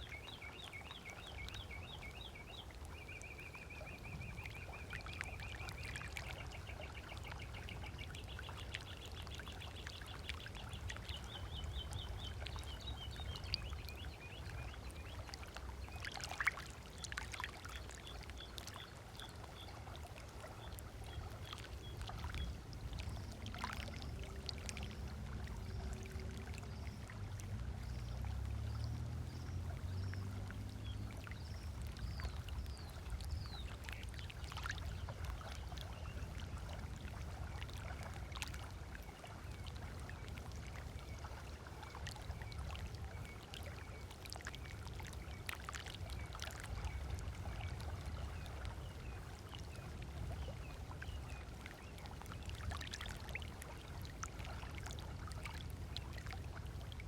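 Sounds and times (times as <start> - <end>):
small waves lapping on shore: 0.0 - 57.0
water splashes: 0.0 - 57.0.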